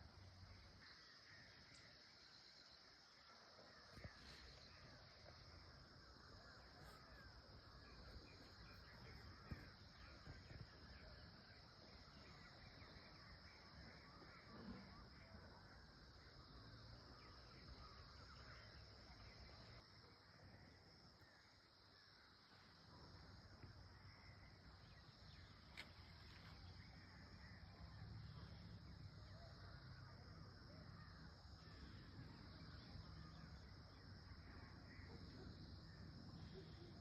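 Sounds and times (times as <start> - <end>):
distant bird calls: 3.4 - 37.0.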